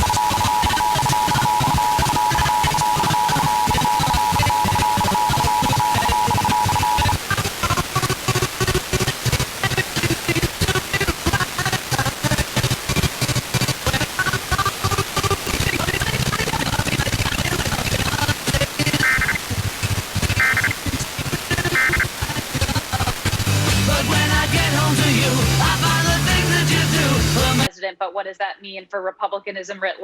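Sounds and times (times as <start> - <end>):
digital data tone bursts: 0.0 - 12.0, 12.6 - 27.7
radio music from several stations: 0.0 - 30.0.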